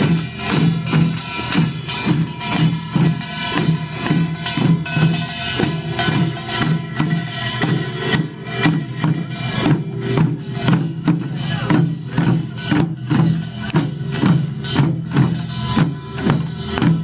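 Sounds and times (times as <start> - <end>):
folk drums and gongs playing: 0.0 - 17.0.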